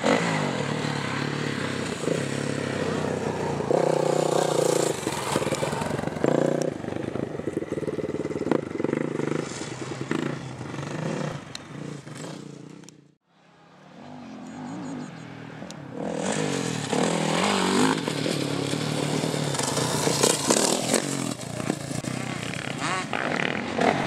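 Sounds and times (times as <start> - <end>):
motocross bike engine revving: 0.0 - 13.1, 14.0 - 24.0.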